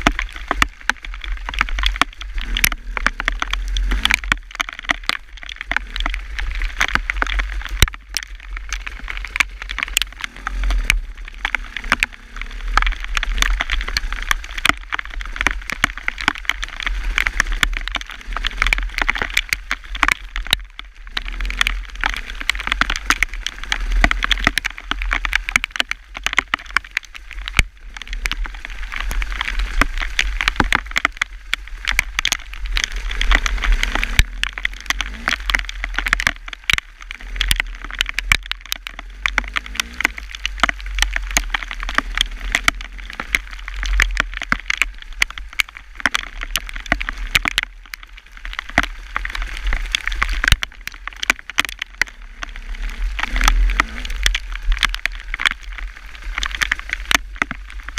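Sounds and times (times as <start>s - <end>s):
hailstones rattling: 0.0s - 57.9s.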